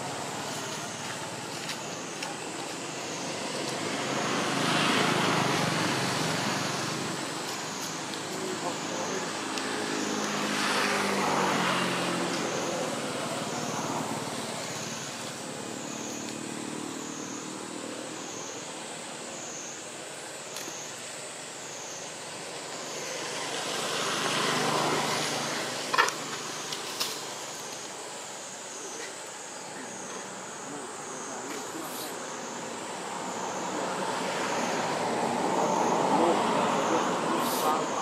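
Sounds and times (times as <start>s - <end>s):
vehicles passing: 0.0s - 38.0s.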